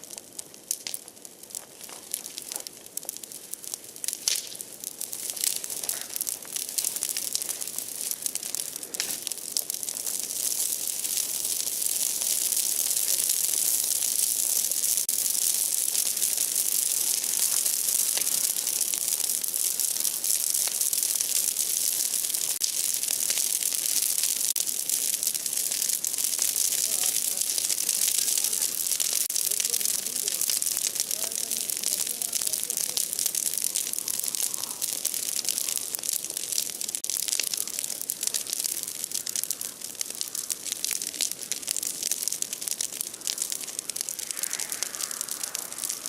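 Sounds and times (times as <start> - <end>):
bonfire crackling and popping: 0.0 - 46.0.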